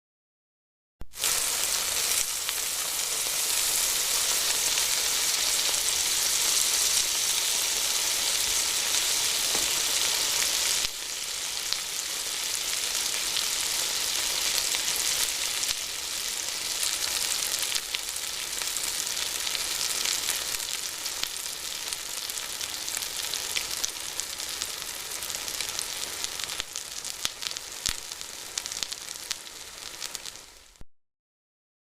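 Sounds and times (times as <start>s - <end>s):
food sizzling in frying pan: 1.1s - 30.8s.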